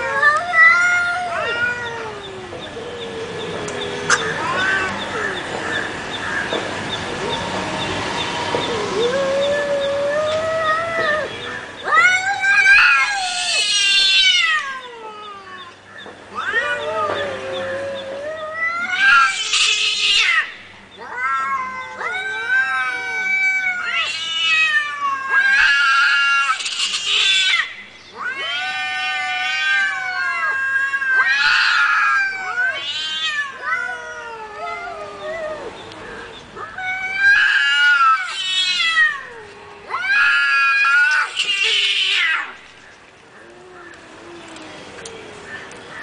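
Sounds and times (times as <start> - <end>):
cats yowling: 0.0 - 46.0.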